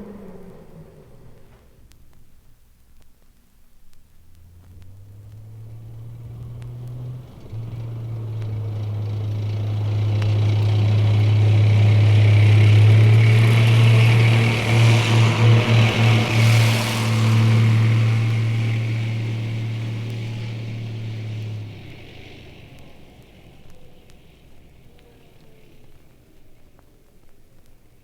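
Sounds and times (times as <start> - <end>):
tank engine low drone: 0.0 - 2.0, 4.2 - 28.0.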